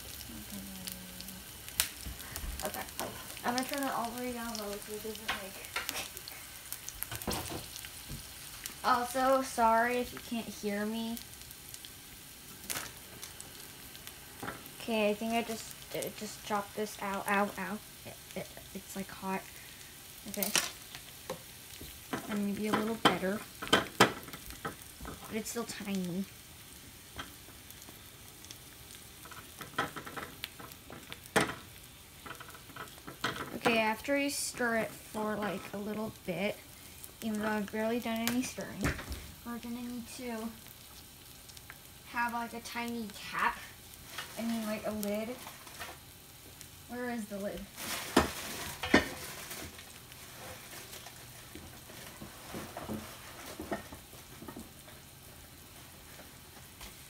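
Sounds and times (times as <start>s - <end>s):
broccoli sizzling in oil: 0.0s - 57.0s.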